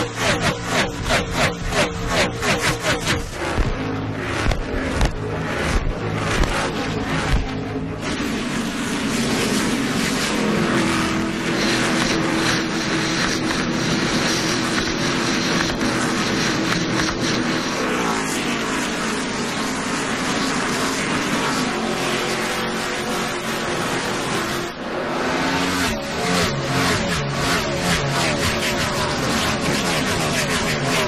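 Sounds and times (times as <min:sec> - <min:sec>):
race car engines passing: 0:00.0 - 0:31.0.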